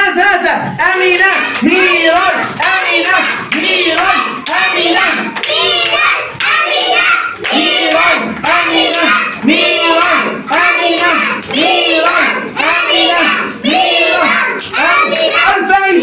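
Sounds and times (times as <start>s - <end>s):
hand-clapping: 0.8s - 15.5s
children chanting: 1.0s - 16.0s.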